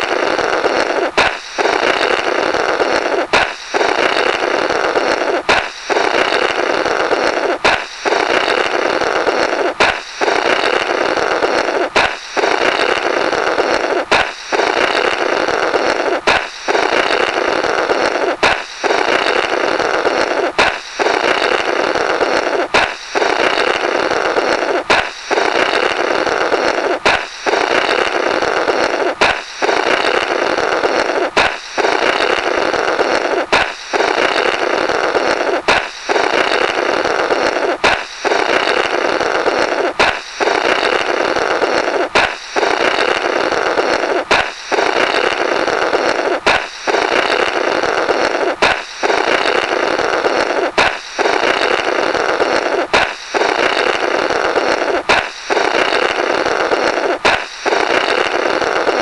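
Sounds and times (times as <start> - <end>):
balloon pop: 0.0 - 2.2, 2.8 - 4.4, 5.0 - 21.6, 22.2 - 28.1, 28.7 - 30.2, 30.8 - 34.5, 35.2 - 39.0, 39.7 - 45.5, 46.2 - 47.6, 48.2 - 59.0
blowing through burst balloon: 0.0 - 59.0.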